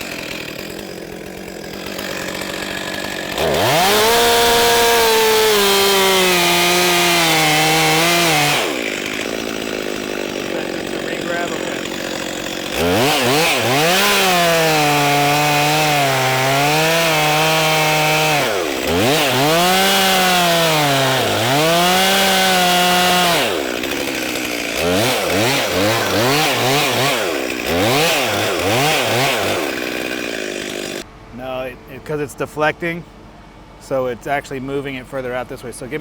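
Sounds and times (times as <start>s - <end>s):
chainsaw cutting wood: 0.0s - 31.1s
chainsaw throttle blips: 0.0s - 31.1s.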